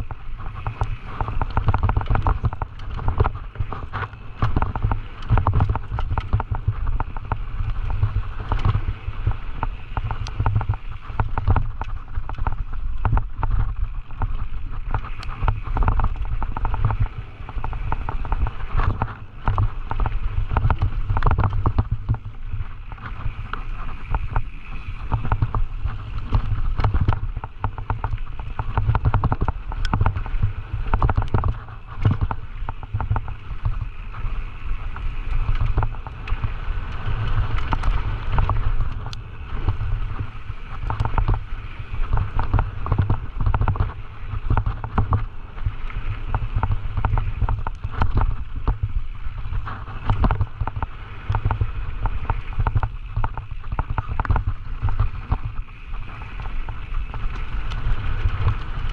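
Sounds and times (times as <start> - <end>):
bike tyres on dirt and rock: 0.0 - 58.9
wind rumble on microphone: 0.0 - 58.9.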